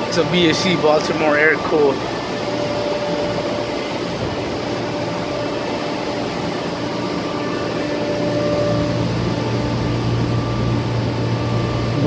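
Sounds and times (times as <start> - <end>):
cooling tower rushing noise: 0.0 - 12.0
faint hum tones: 0.0 - 12.0.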